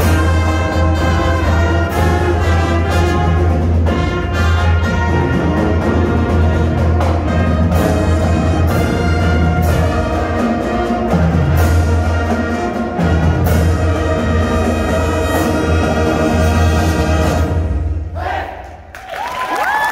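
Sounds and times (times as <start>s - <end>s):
brass chords: 0.0s - 18.6s
percussion hits: 0.0s - 18.8s.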